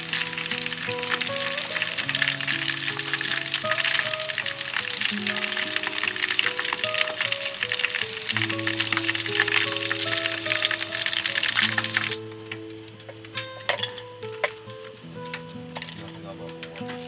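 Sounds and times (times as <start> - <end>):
food sizzling in a frying pan: 0.0 - 17.0
slow background music: 0.0 - 17.0.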